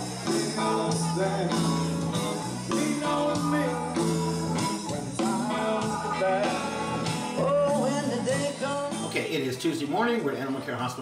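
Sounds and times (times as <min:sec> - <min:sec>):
rock song with singing: 0:00.0 - 0:11.0.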